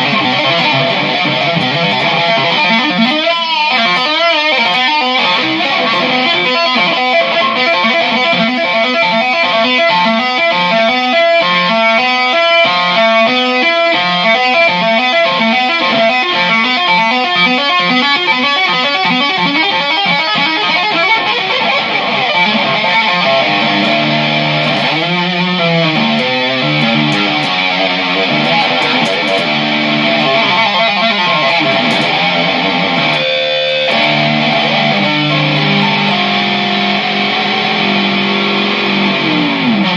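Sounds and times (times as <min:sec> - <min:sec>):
electric guitar music: 0:00.0 - 0:39.9.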